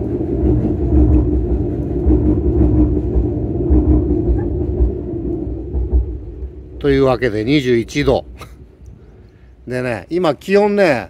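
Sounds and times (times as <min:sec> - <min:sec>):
train crossing steel bridge: 0:00.0 - 0:11.0.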